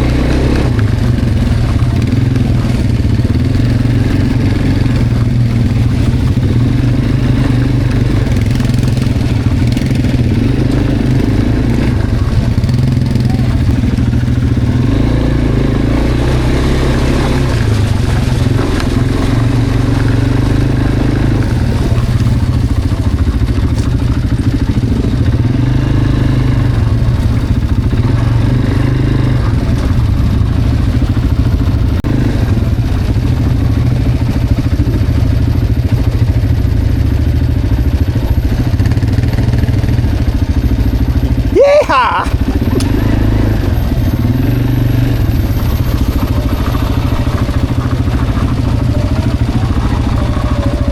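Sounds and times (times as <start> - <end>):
quad bike engine running: 0.0 - 50.9.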